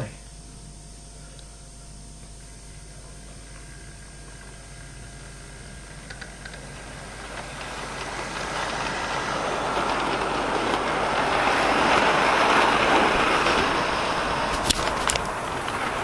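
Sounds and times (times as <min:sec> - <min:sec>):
model train whirring on track: 0:00.8 - 0:16.0.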